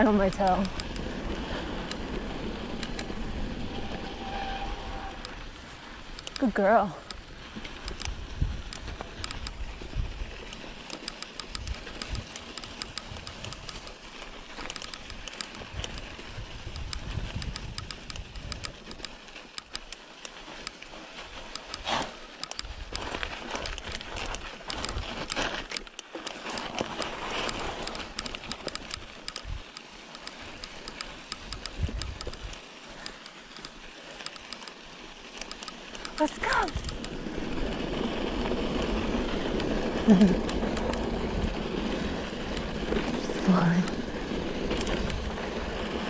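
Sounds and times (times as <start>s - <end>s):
sharp ticks: 0.0s - 5.4s, 6.0s - 44.0s, 44.7s - 46.0s
bike rattling over bumps: 0.0s - 46.0s
bike tyres crunching on dirt: 0.0s - 46.0s.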